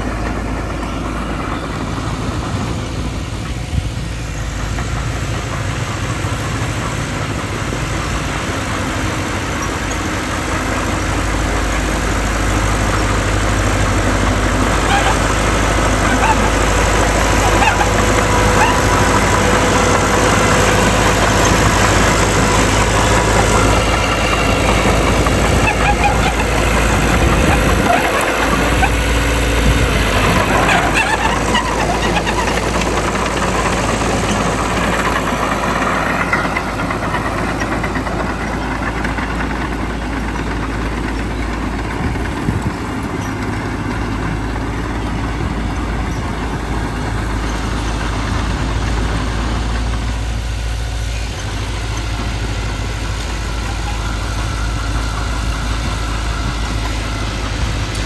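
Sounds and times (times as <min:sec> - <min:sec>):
diesel engine rumbling: 0:00.0 - 0:58.0
machinery rattling: 0:00.0 - 0:58.0.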